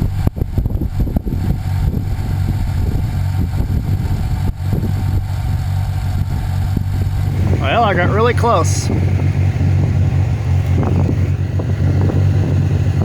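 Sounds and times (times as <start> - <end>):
engine droning steadily: 0.1 - 13.0.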